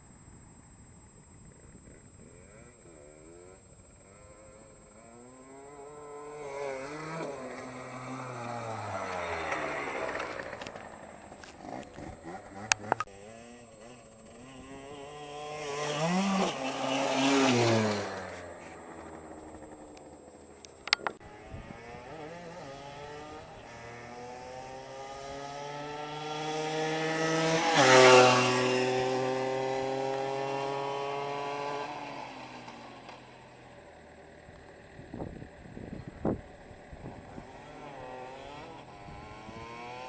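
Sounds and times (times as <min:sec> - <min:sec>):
motorbike engine passing by: 0:01.6 - 0:40.0.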